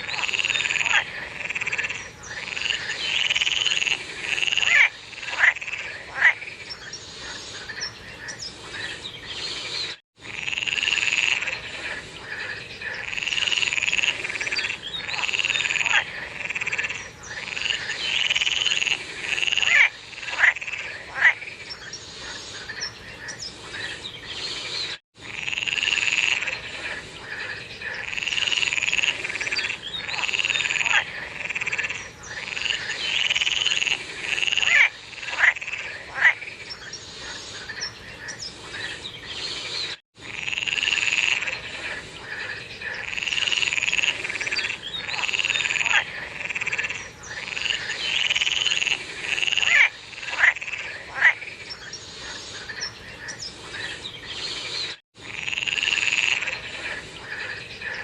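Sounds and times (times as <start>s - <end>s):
chorus of frogs calling: 0.0s - 58.0s
louder nearby frog calls: 0.0s - 58.0s.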